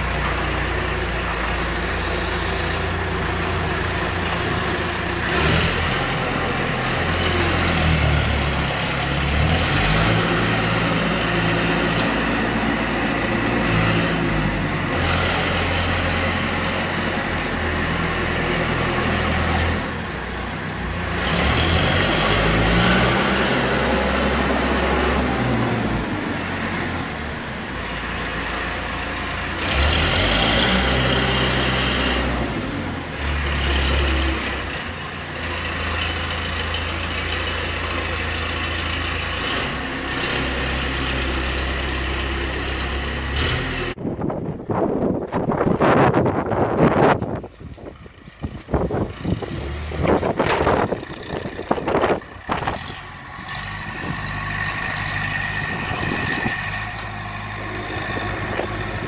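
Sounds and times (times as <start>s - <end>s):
loader engine revving: 0.0s - 59.0s.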